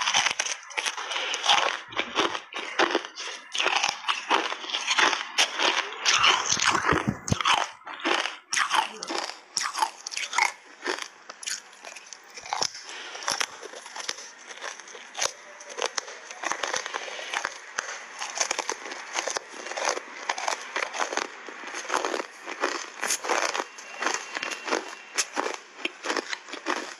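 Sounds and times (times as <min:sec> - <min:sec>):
ice crunching in mouth: 0:00.0 - 0:26.9.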